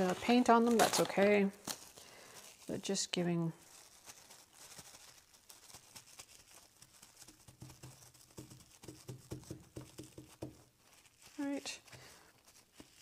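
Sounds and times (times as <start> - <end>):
fingers patting plastic wrap: 0.0 - 13.0
plastic wrap crinkling: 0.0 - 13.0.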